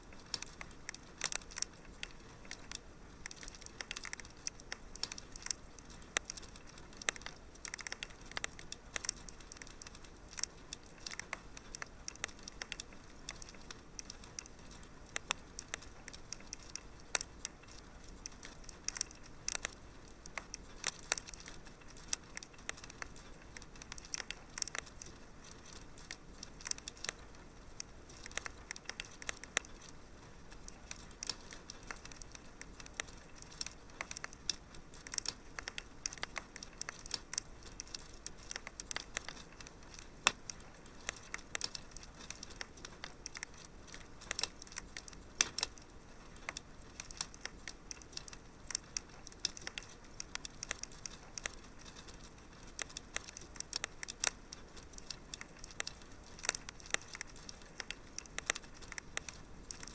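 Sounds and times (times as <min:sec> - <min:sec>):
fire pops and snaps: 0:00.0 - 0:59.9
low steady hiss: 0:00.0 - 0:59.9
wood fire crackling: 0:00.0 - 0:59.9.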